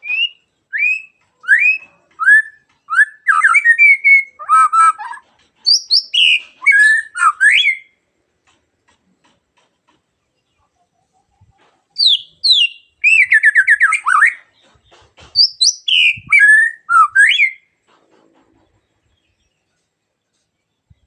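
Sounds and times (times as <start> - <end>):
songbird whistles and rattles: 0.0 - 9.7, 10.4 - 17.8.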